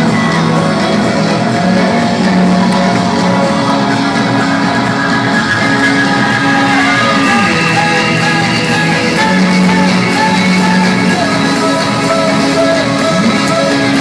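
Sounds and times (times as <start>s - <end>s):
live electro-pop band playing: 0.0s - 14.0s.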